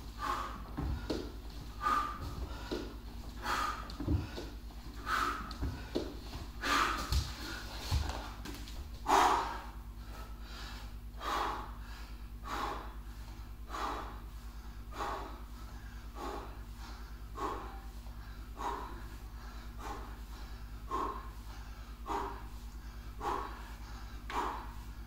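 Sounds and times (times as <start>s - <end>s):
man breathing hard: 0.0s - 25.0s
steady low hum: 0.0s - 25.0s.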